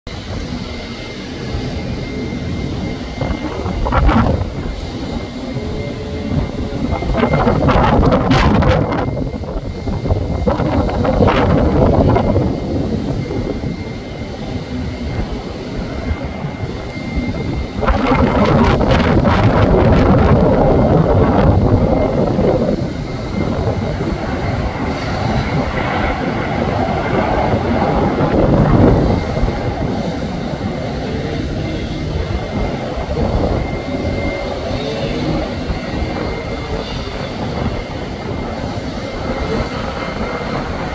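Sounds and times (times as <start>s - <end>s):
jet engines low rumble and whine: 0.0s - 40.9s.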